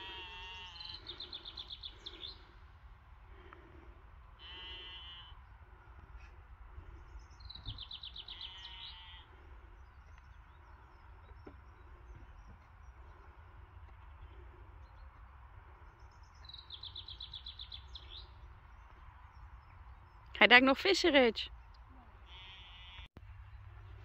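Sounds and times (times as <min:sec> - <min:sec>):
songbird singing: 0:00.0 - 0:02.7, 0:05.3 - 0:24.0.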